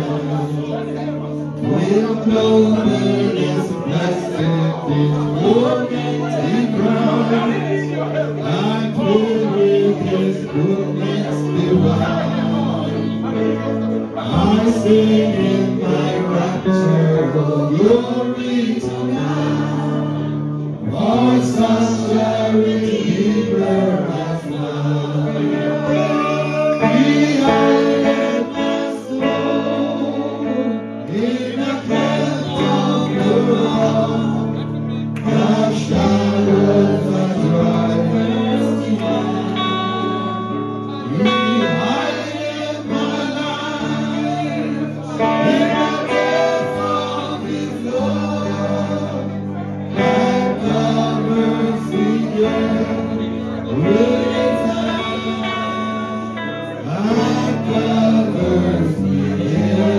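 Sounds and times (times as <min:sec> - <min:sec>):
gospel choir singing: 0:00.0 - 0:59.9.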